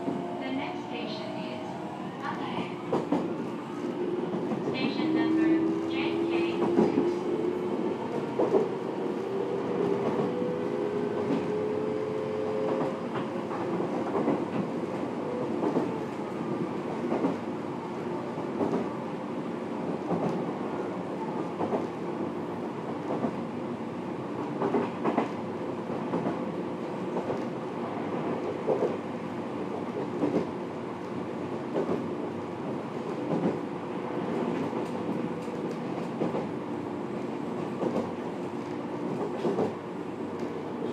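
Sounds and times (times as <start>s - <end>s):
train rumble: 0.0s - 40.9s.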